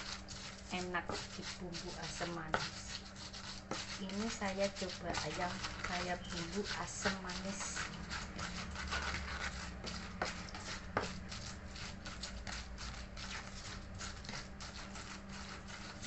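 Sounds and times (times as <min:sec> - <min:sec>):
stone pestle grinding in mortar: 0:00.0 - 0:16.0.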